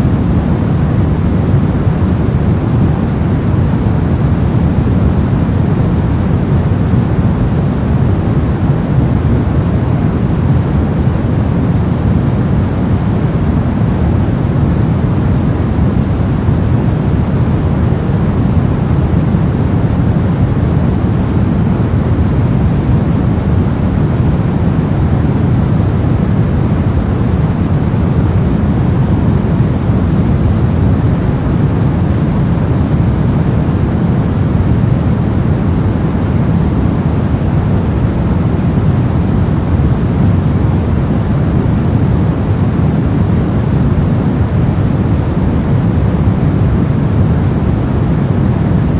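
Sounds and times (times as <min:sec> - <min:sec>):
brown noise rushing hiss: 0:00.0 - 0:48.9.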